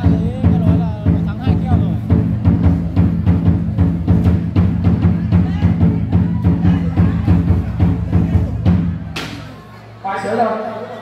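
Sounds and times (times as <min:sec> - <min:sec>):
large drum booming: 0:00.0 - 0:09.5.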